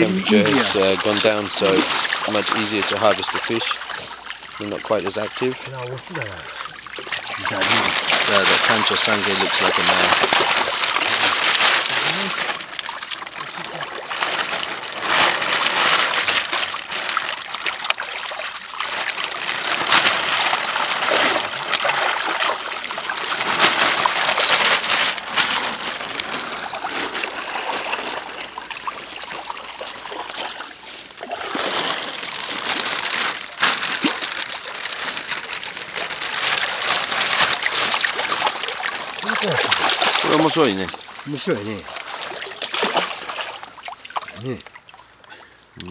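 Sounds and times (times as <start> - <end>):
water splashing and trickling: 0.0 - 45.9.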